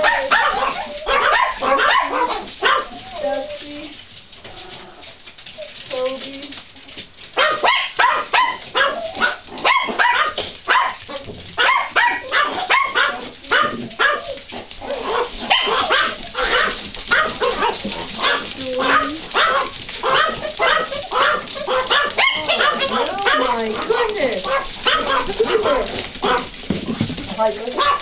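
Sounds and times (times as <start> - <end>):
small dogs barking and yipping: 0.0 - 28.0.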